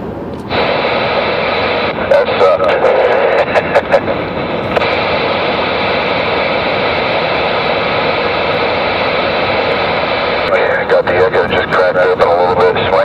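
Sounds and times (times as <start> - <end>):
faint hum: 0.0 - 13.0
radio static hiss: 0.4 - 13.0.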